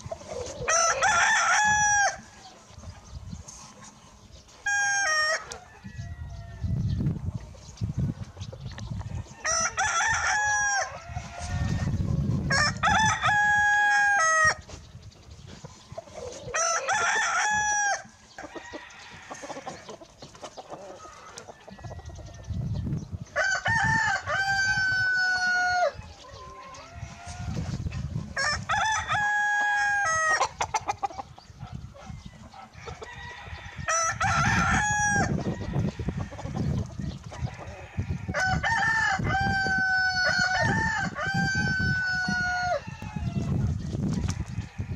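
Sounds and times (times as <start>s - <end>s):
roosters crowing: 0.0s - 15.0s, 15.6s - 44.9s.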